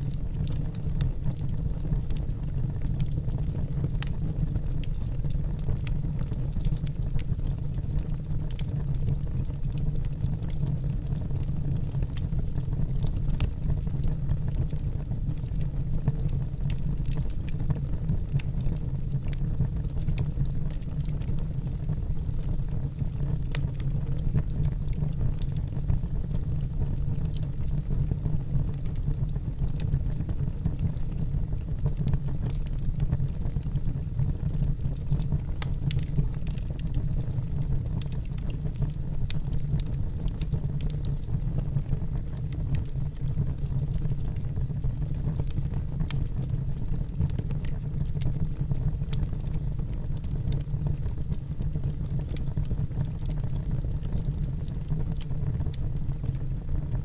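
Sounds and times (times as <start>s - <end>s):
low rumble of flames: 0.0s - 57.0s
campfire crackling: 0.1s - 56.4s.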